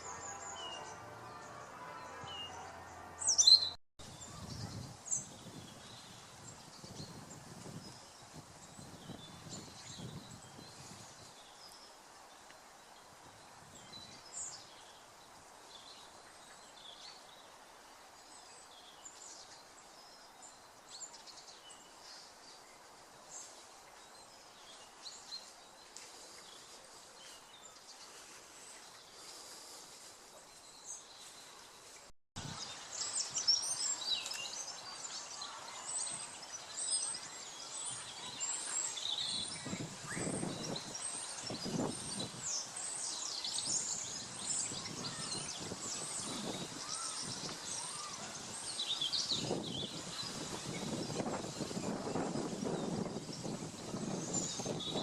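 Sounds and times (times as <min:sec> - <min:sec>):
small birds chirping: 0:00.0 - 0:17.6, 0:18.2 - 0:55.0.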